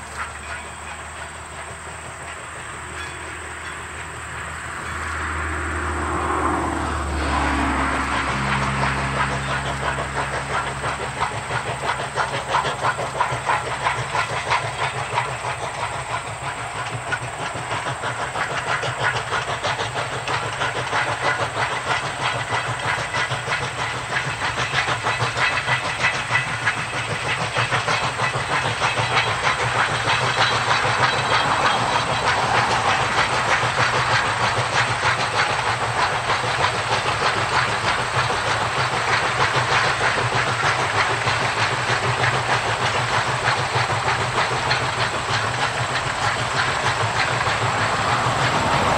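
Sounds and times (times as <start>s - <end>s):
diesel engine drone: 0.0s - 48.9s
train wheels clattering on rails: 0.0s - 48.9s.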